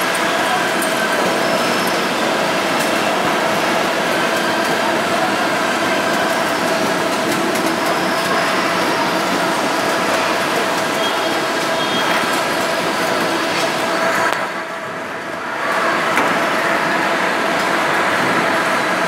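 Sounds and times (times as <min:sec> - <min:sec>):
conveyor belts running: 0:00.0 - 0:19.0.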